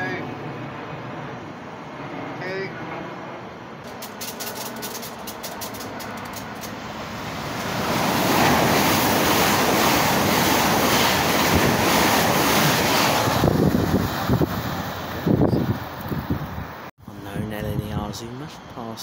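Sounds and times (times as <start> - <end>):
train passing at speed: 0.0 - 16.9.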